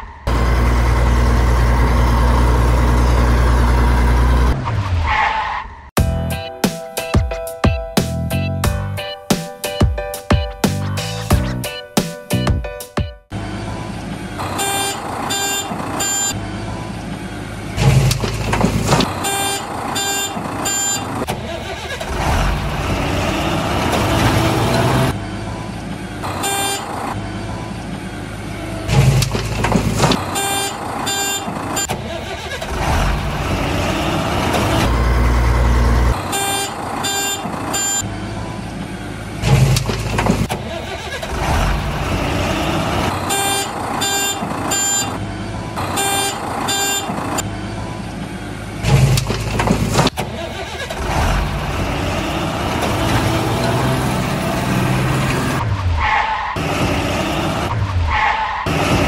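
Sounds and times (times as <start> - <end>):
truck engine rumbling: 0.0 - 59.0.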